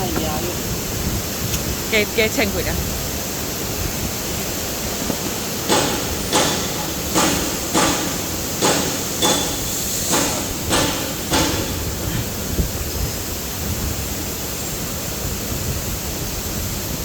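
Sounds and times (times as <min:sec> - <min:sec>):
machine steady hiss: 0:00.0 - 0:17.0.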